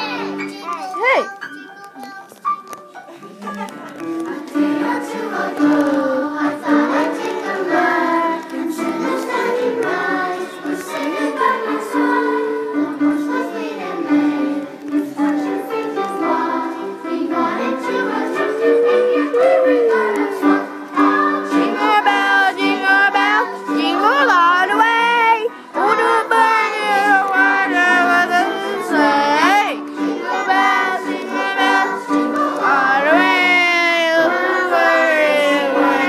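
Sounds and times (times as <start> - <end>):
musical backing with low note: 1.3 - 36.0
group singing with children: 3.2 - 36.0.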